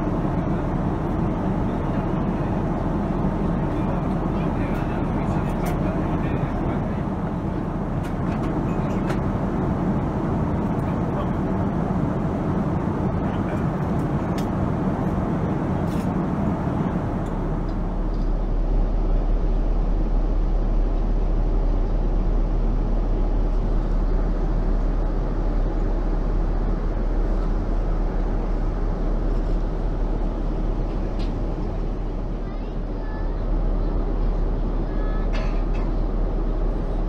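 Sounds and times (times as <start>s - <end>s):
airplane cabin airflow: 0.0s - 37.0s
jet engines droning: 0.0s - 37.0s.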